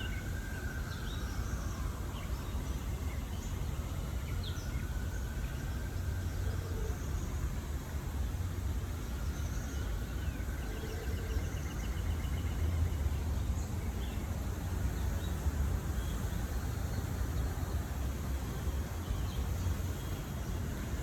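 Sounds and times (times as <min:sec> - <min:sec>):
distant city traffic rumble: 0:00.0 - 0:21.0.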